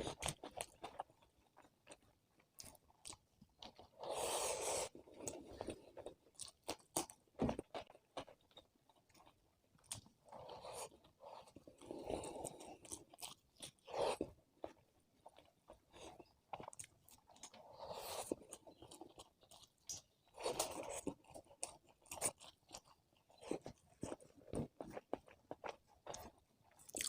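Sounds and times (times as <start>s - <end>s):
person chewing and crunching food: 0.0s - 27.0s.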